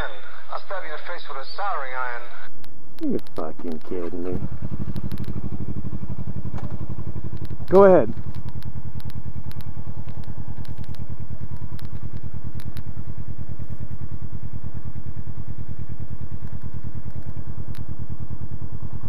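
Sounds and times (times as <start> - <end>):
motorcycle engine idling: 3.0 - 19.0.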